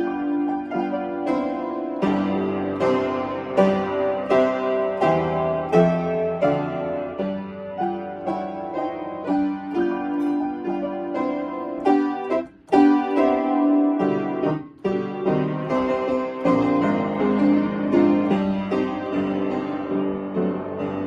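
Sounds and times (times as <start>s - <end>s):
solo piano melody over chords: 0.0s - 21.0s.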